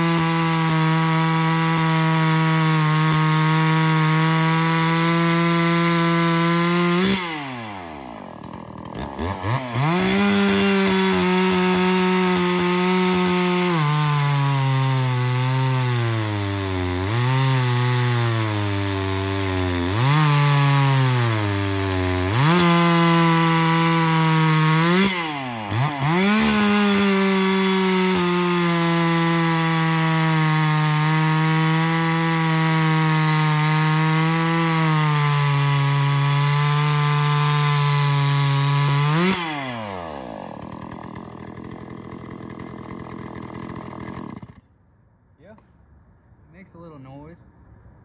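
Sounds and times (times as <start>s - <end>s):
chainsaw cutting log: 0.0s - 44.8s.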